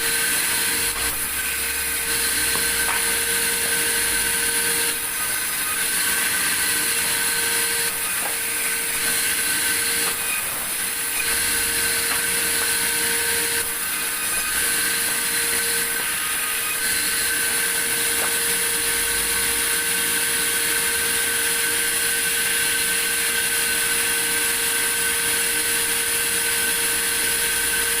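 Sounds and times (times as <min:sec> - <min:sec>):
saw whining cutting through log: 0:00.0 - 0:28.0.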